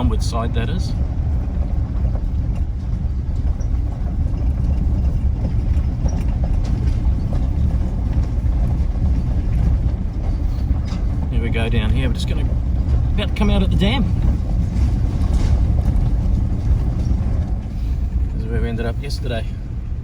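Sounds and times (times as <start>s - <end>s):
engine and road noise rumble: 0.0s - 20.0s.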